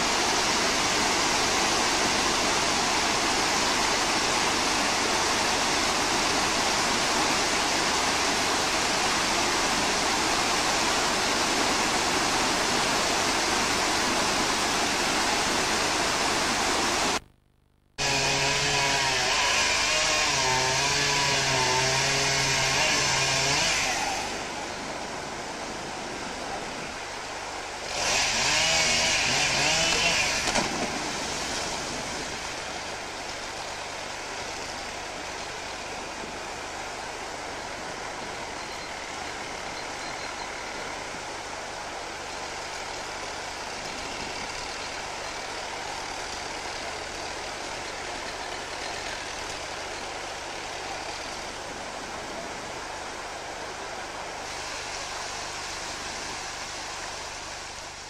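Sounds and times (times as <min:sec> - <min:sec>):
rushing river: 0:00.0 - 0:17.2, 0:23.1 - 0:58.0.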